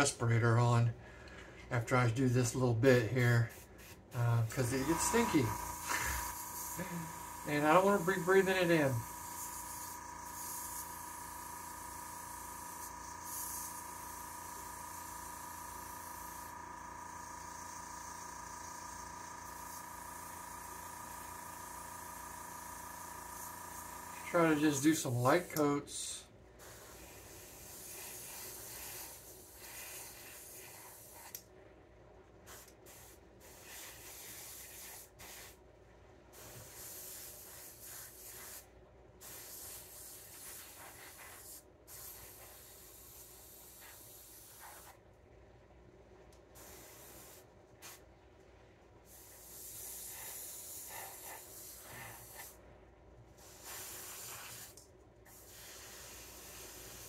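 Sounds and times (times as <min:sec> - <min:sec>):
airbrush spraying hiss: 0:03.2 - 0:31.4, 0:32.5 - 0:35.6, 0:36.3 - 0:45.0, 0:46.5 - 0:48.0, 0:49.1 - 0:52.6, 0:53.4 - 0:57.0.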